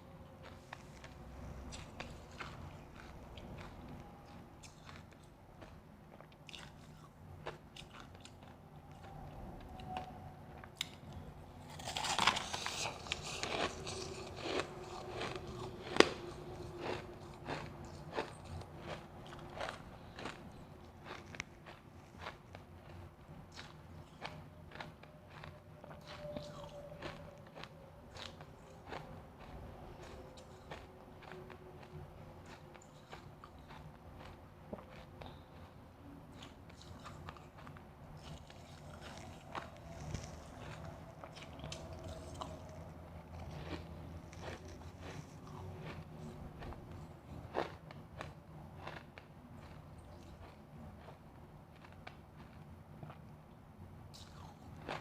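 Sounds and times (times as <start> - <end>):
ice being chewed: 0.1 - 53.4, 54.2 - 55.0.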